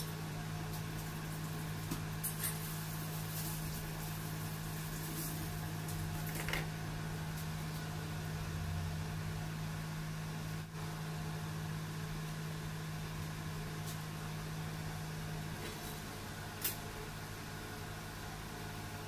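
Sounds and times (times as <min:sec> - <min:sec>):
low mechanical hum of machine: 0:00.0 - 0:19.0.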